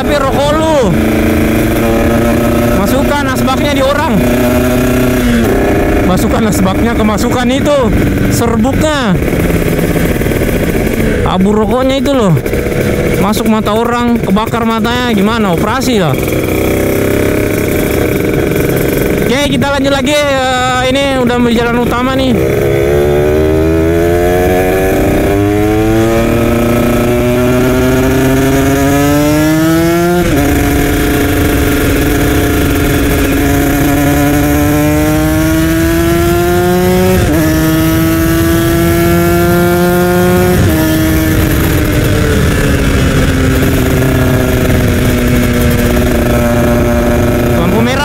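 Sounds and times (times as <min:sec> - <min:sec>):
two-stroke motorcycle engine accelerating: 0:00.0 - 0:48.0.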